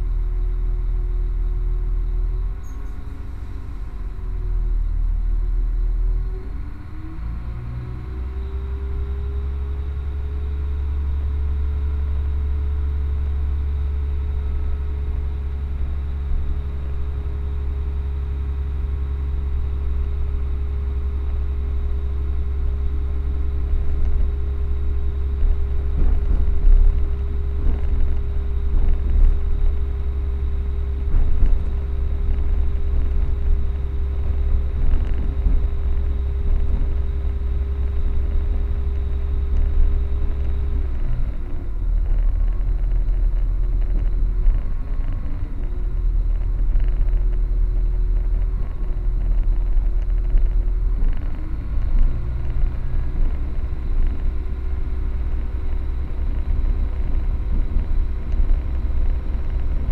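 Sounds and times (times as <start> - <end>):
train rumbling with humming tone: 0.0 - 59.9.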